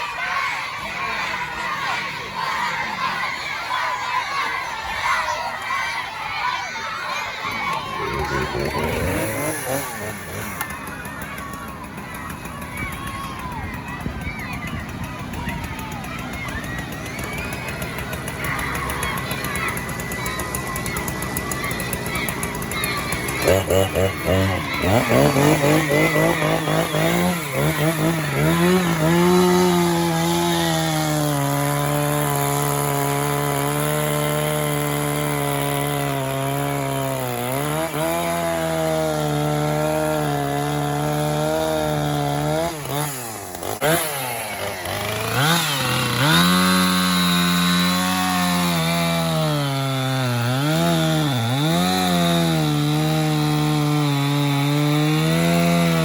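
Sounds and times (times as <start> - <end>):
chainsaw cutting wood: 7.1 - 56.0.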